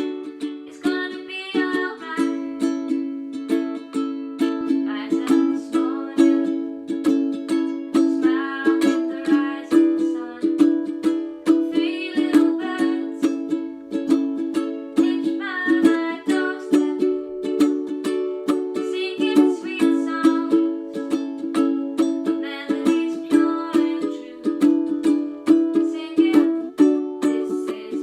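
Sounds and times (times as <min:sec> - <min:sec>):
ukulele strumming: 0:00.0 - 0:28.0.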